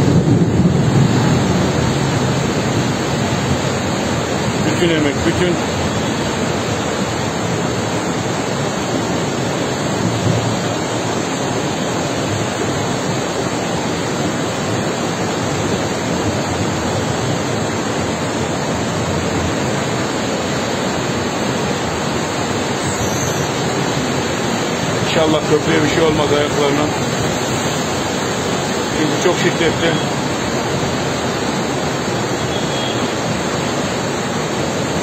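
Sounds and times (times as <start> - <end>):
floodwater rushing: 0.0 - 35.0.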